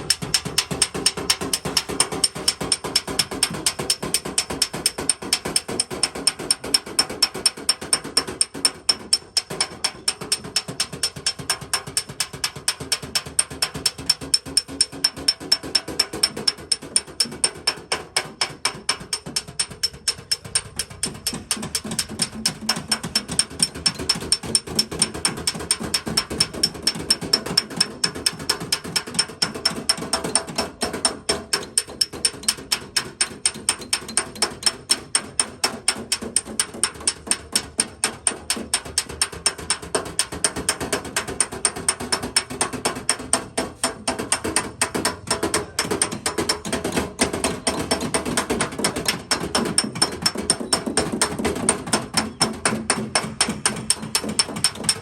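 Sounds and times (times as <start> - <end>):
tool tapping on car body: 0.0 - 55.0.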